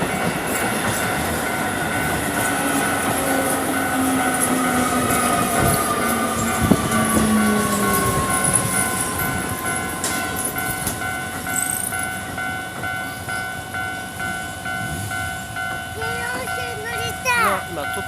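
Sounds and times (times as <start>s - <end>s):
electric train passing: 0.0s - 18.0s
level crossing alarm dinging: 0.0s - 18.0s.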